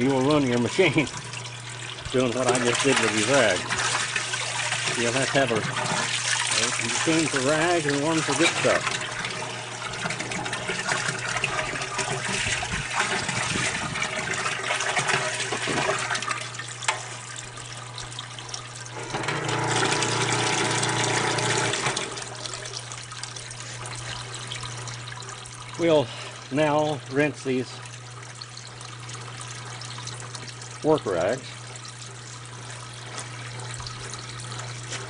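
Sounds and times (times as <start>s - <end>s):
hose water running into tub: 0.0s - 35.0s.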